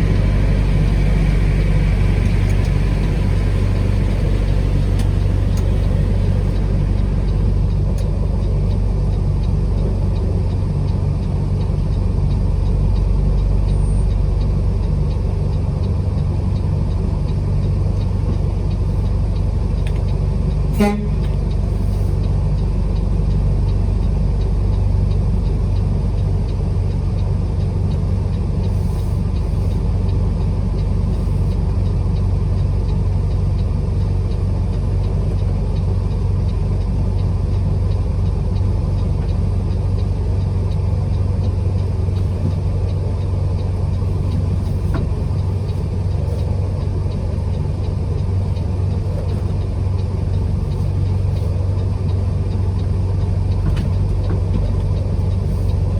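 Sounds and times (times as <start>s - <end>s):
road noise: 0.0s - 55.9s
truck engine hum: 0.0s - 55.9s.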